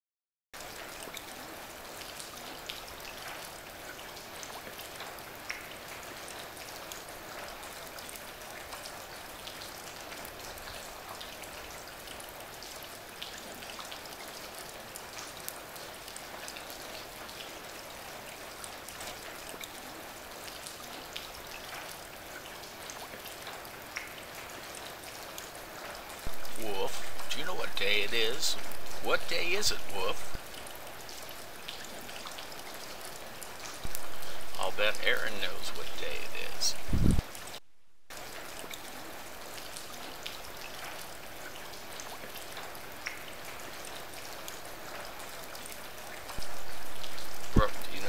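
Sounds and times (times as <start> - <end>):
steady rain hiss: 0.6 - 48.0
raindrop ticks: 1.0 - 48.0.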